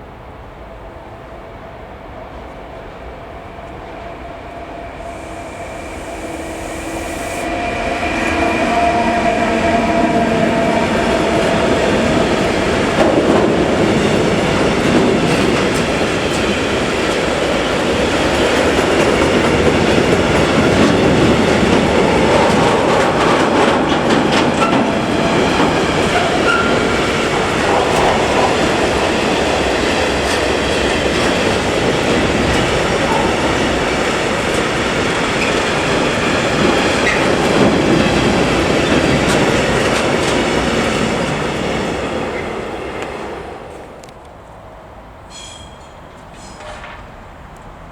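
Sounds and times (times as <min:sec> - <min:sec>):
train wheels on rails: 0:01.0 - 0:44.5, 0:45.2 - 0:47.9.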